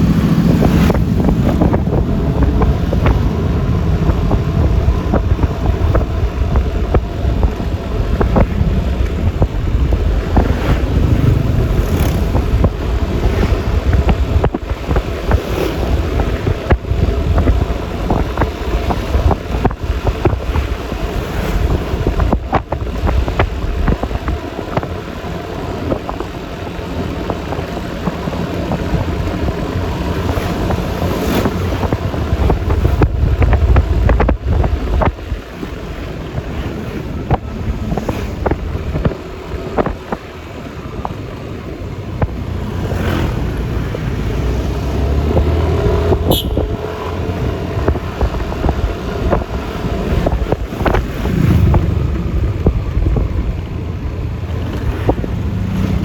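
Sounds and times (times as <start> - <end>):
scooter engine running: 0.0 - 56.0
wind buffeting microphone: 0.0 - 56.0.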